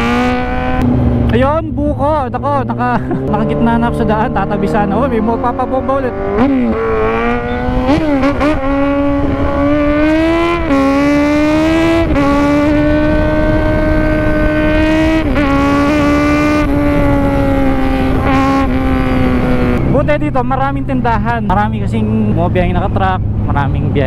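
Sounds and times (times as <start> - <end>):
motorcycle engine at high revs: 0.0 - 24.0
wind rumble on microphone: 3.2 - 24.0.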